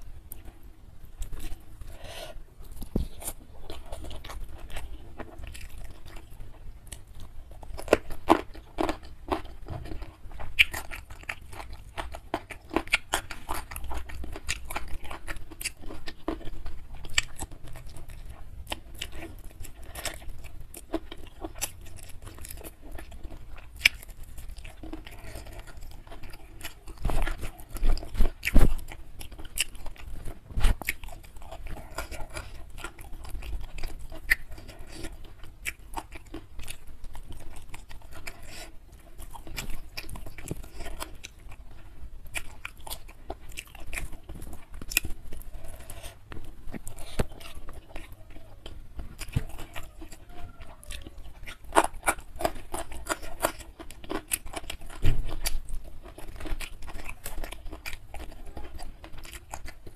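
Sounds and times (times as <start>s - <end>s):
chewing with soft crunches: 0.0s - 59.9s.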